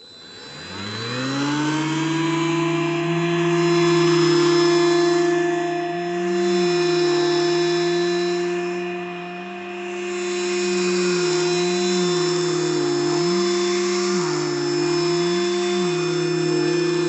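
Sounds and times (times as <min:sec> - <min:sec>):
handheld vacuum motor hum: 0:00.0 - 0:17.0.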